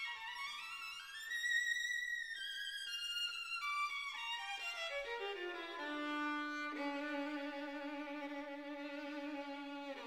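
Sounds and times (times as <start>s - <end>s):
violin playing slow notes: 0.0s - 10.0s.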